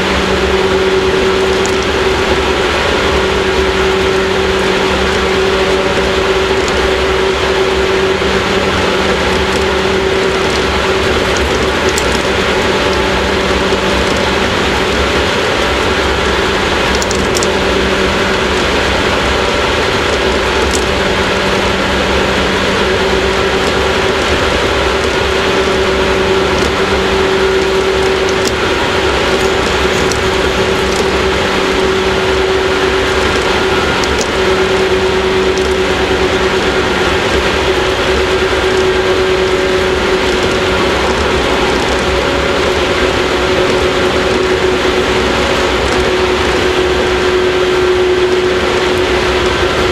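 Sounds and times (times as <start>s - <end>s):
train motor and gear hum: 0.0s - 49.9s
wheels rumbling on rails: 0.0s - 49.9s.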